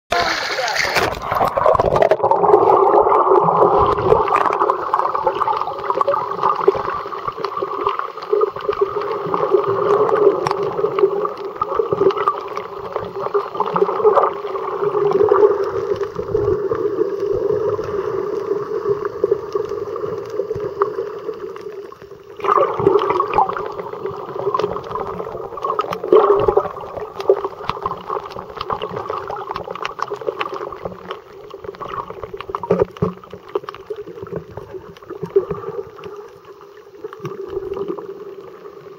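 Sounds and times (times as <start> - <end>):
small underwater clicks and crackles: 0.1 - 38.9.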